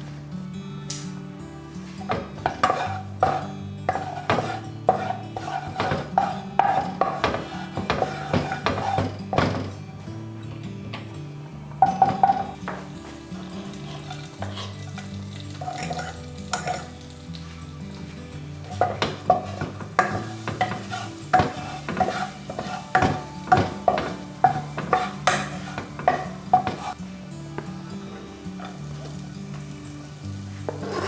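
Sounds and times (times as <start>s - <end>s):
food sizzling: 0.0s - 31.0s
soft background music: 0.0s - 31.0s
utensil scraping frying pan: 1.7s - 31.0s.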